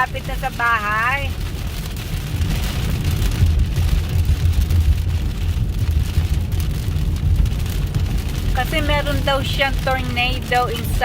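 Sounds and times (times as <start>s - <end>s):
car engine and tyres rumbling: 0.0s - 11.0s
heavy rain on a car: 0.0s - 11.0s.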